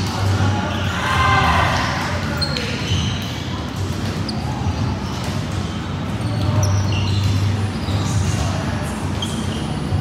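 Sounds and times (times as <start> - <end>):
sneakers squeaking on court: 1.7 - 10.0.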